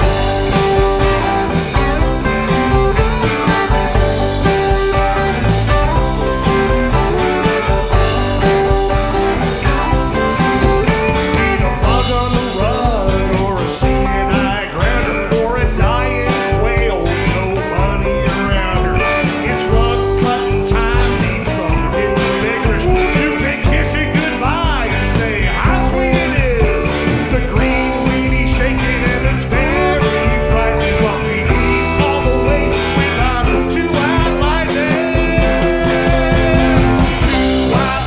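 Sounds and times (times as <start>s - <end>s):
drum kit: 0.0s - 38.0s
electric guitars: 0.0s - 38.0s
keyboard: 0.0s - 38.0s
man singing lead: 0.0s - 38.0s.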